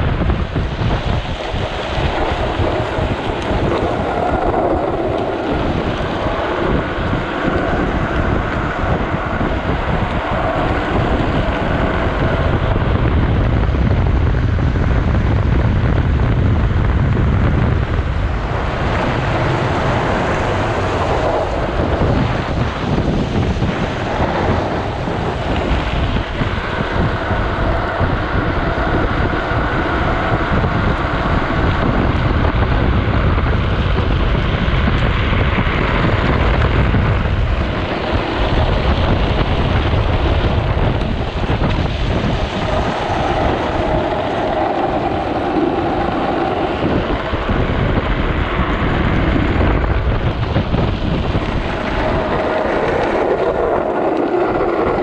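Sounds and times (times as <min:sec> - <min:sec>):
wheels rolling on wet asphalt: 0:00.0 - 0:55.0
wind on camera microphone: 0:00.0 - 0:55.0.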